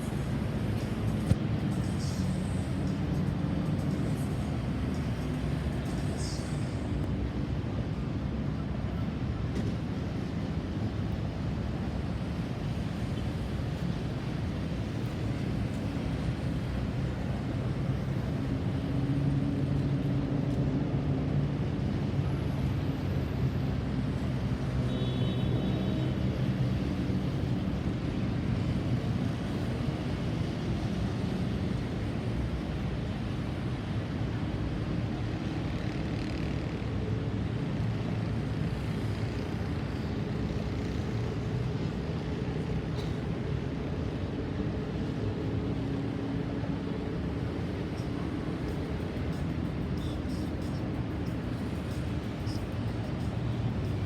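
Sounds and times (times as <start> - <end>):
road traffic rumble: 0.0 - 54.0
vehicle engine hum: 0.0 - 54.0.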